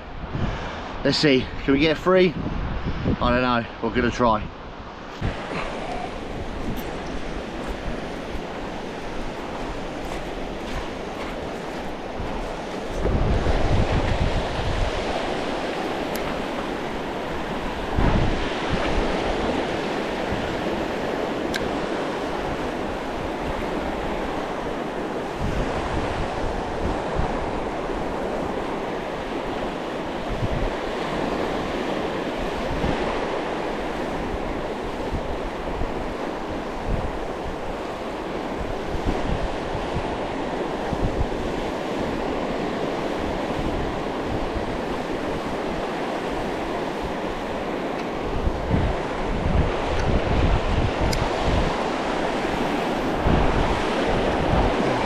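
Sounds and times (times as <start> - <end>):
sea waves washing ashore: 0.0 - 55.0
wind gusting on microphone: 0.0 - 55.0.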